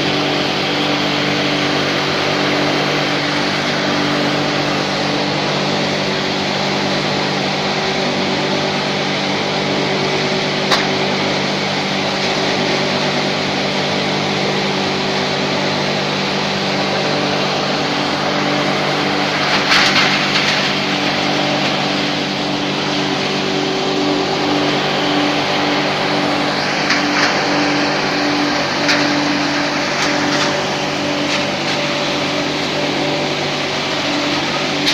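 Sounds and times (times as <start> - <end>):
hammer mill humming: 0.0 - 34.9.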